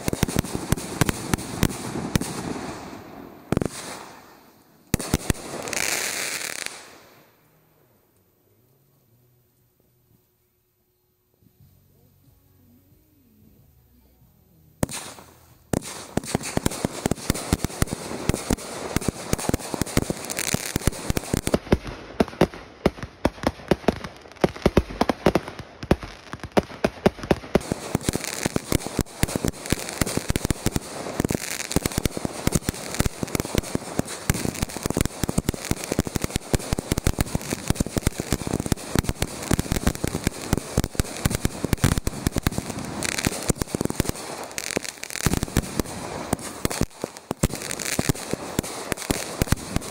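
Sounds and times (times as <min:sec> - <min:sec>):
firework aerial bursts crackling: 0:00.0 - 0:07.4, 0:14.8 - 0:49.9.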